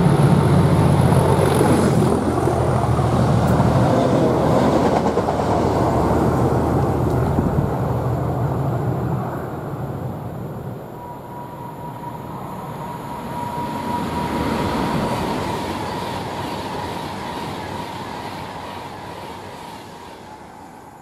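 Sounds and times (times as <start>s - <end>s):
diesel locomotive rumble: 0.0s - 18.3s
steady high whine: 0.0s - 21.0s.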